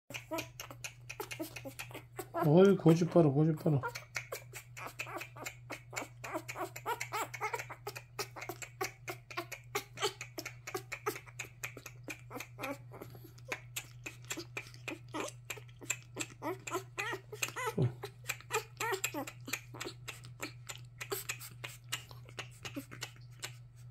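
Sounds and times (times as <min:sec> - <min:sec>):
puppy suckling from a bottle: 0:00.1 - 0:23.9.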